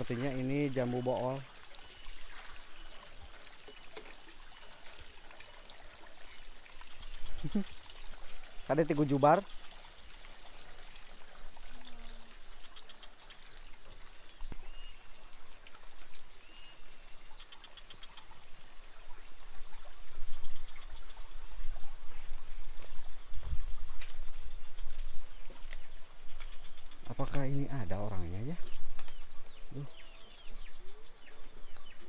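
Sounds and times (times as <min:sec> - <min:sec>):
running water trickling: 0:00.0 - 0:32.0.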